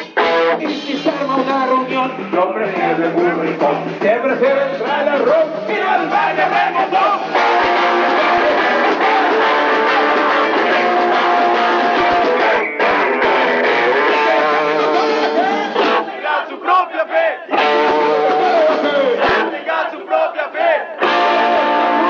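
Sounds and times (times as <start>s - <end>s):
electric guitar: 0.0s - 16.3s, 17.5s - 19.8s, 21.0s - 22.0s
live band playing: 0.0s - 22.0s.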